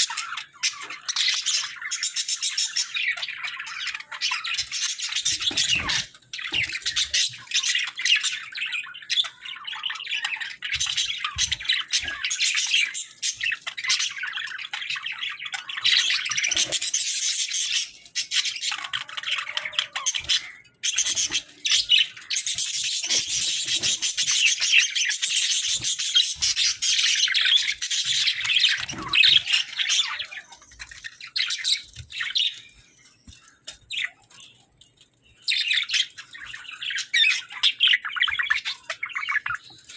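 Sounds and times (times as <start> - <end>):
budgerigars chirping: 0.0 - 32.8, 35.5 - 39.9.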